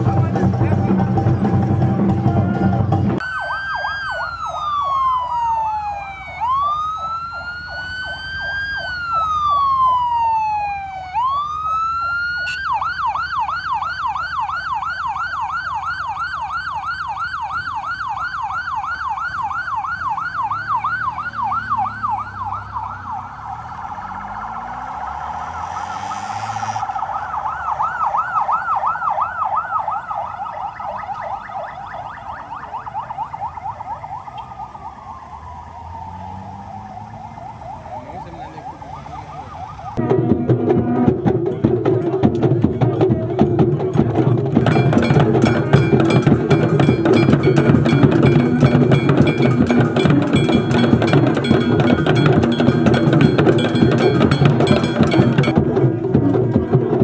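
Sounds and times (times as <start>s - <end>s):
siren wail: 1.0s - 57.0s
siren fast yelp: 3.2s - 41.1s, 44.7s - 55.6s.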